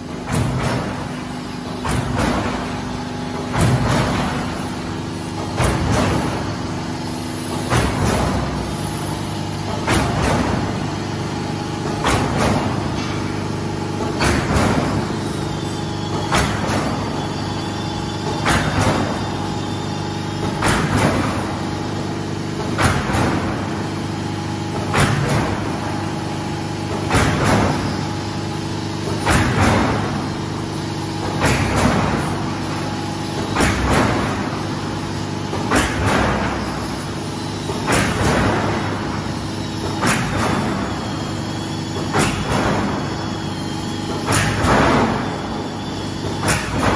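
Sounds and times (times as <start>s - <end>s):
machine mechanical hum: 0.0s - 46.9s.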